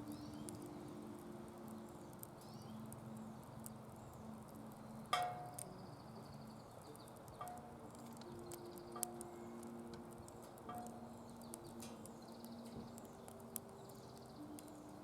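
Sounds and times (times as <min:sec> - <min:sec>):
sharp snap from fire: 0:00.0 - 0:15.0
wood fire crackling: 0:00.0 - 0:15.0.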